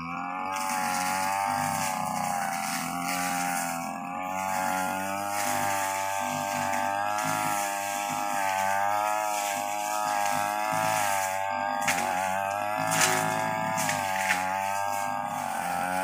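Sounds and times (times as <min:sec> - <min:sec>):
brush cutter engine running: 0:00.0 - 0:16.0.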